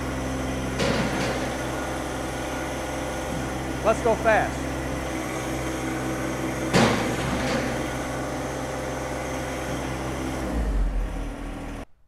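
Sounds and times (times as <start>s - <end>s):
tractor diesel engine running: 0.0s - 11.9s
loader bucket metallic clunk: 0.1s - 10.8s.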